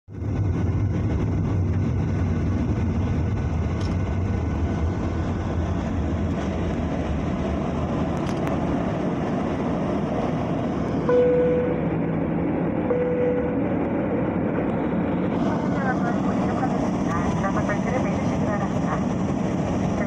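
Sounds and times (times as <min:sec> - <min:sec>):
jet engines low rumble: 0:00.0 - 0:20.0.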